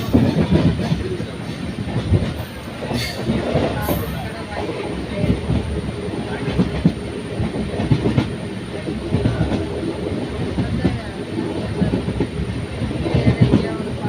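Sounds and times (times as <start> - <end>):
train wheels rattling on rails: 0.0 - 14.0.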